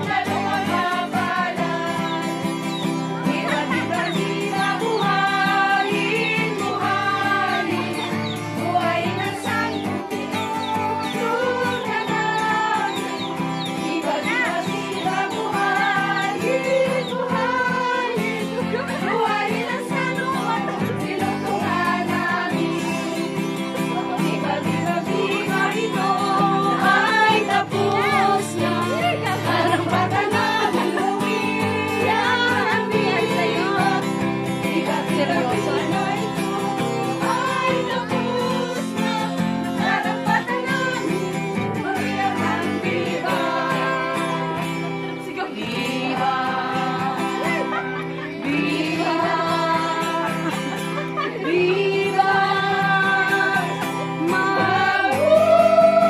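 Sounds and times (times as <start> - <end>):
several voices singing with instruments: 0.0 - 56.0.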